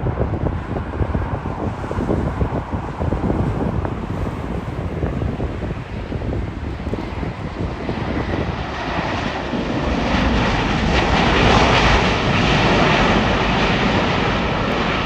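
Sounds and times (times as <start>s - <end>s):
jet airliner engine rush: 0.0s - 15.0s.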